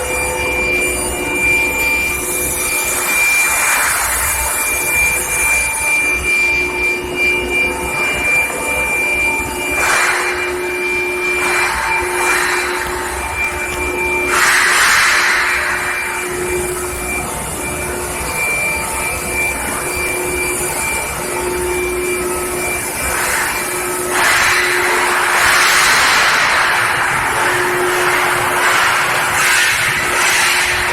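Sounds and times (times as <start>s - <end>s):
steady high machine whine: 0.0s - 30.9s.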